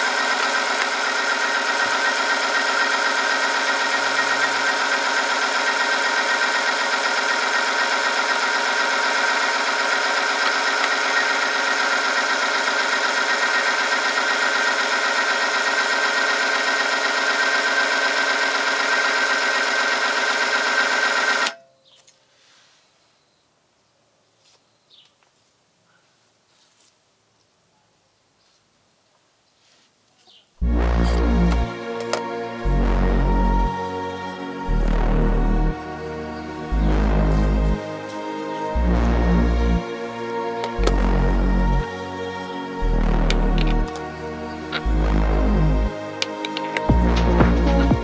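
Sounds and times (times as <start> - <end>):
machine motor whining: 0.0 - 21.6, 30.6 - 48.0.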